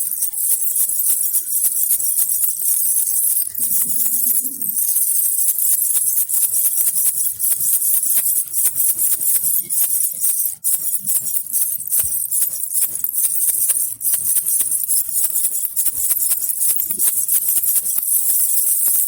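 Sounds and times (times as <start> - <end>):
baby rattle jingling: 0.0 - 19.0.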